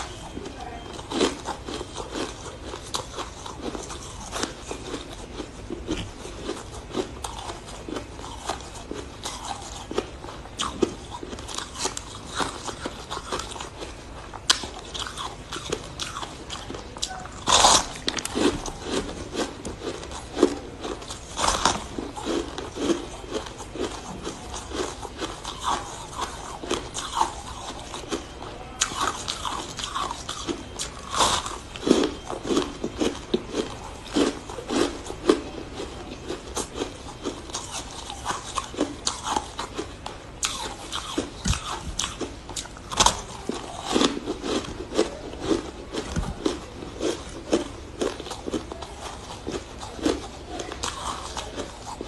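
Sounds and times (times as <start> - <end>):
chewing crunchy ice: 0.0 - 52.0.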